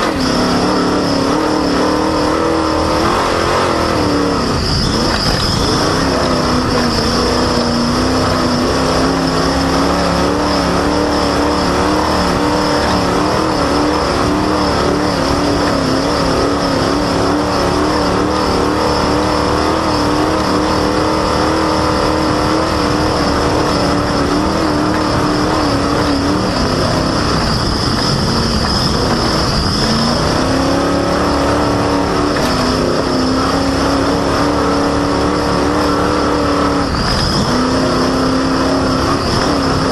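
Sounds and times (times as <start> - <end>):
race car engine at high revs: 0.0 - 39.9
squeaky drive belt squeal: 0.0 - 39.9.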